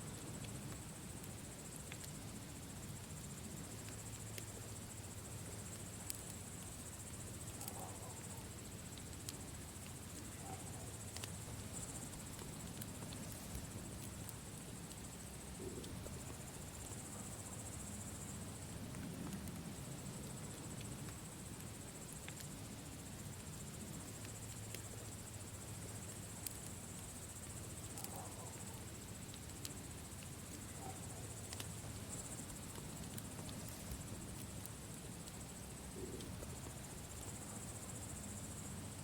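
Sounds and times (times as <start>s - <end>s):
crickets chirping: 0.0s - 39.0s
campfire crackling and popping: 0.1s - 39.0s.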